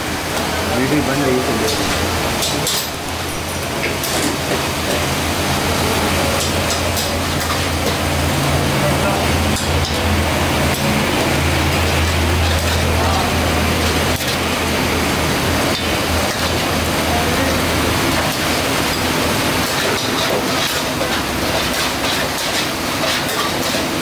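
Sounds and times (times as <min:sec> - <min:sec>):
gas burners hissing: 0:00.0 - 0:24.0
meat sizzling in woks: 0:00.0 - 0:24.0.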